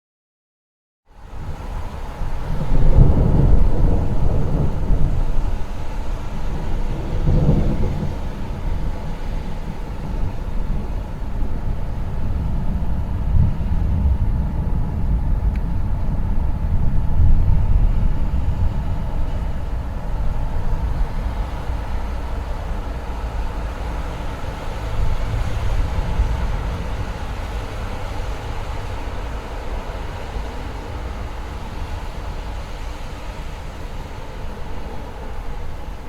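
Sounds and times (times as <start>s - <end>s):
distant thunder rumbling: 1.6s - 36.0s.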